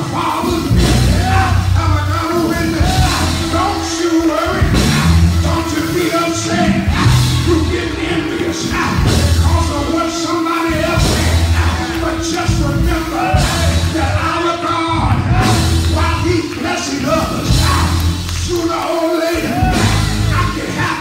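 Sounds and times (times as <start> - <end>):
live church music: 0.0 - 21.0
preacher singing and hollering: 0.0 - 21.0.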